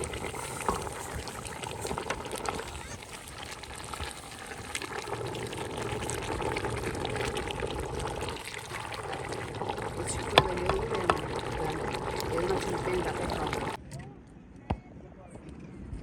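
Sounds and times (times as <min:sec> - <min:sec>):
water boiling in a pot: 0:00.0 - 0:13.8
wood fire crackling: 0:00.0 - 0:13.8.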